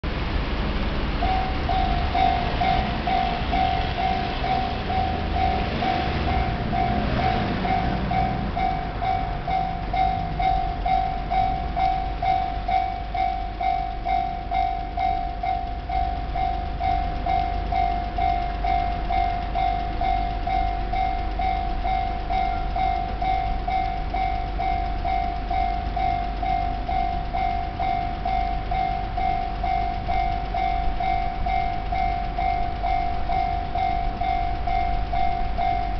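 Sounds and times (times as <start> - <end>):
low rumble: 0.1 - 35.9
level crossing bell ringing: 1.2 - 35.9.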